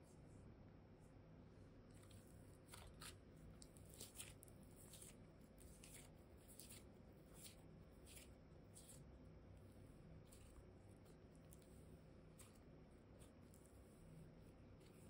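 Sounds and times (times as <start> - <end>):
clay squishing in hands: 1.7 - 15.0.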